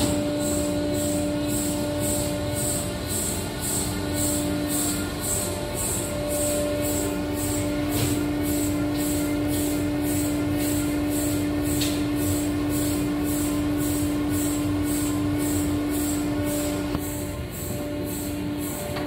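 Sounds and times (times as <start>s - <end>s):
cnc router machine hum: 0.0s - 19.0s
pulsing high hiss: 0.0s - 19.0s.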